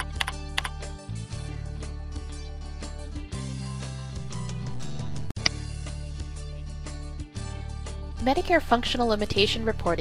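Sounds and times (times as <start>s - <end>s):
background music with chords and bass: 0.0s - 10.0s.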